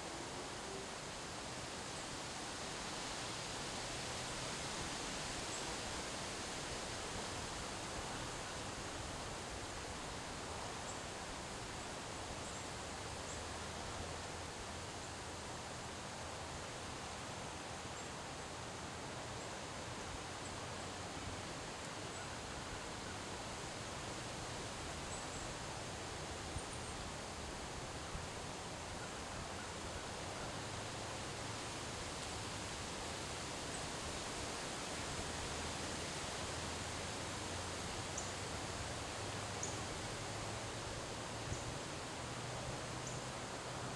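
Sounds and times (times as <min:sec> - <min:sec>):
wind rushing through trees: 0:00.0 - 0:43.9.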